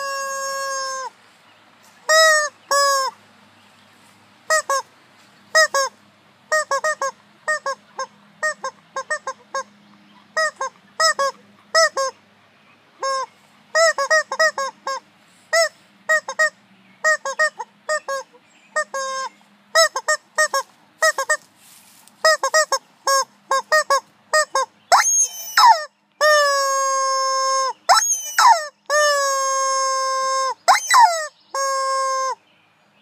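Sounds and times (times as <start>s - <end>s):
rubber chicken toy squawking: 0.0s - 1.2s, 2.0s - 3.2s, 4.5s - 4.9s, 5.5s - 12.2s, 13.0s - 21.5s, 22.2s - 32.4s.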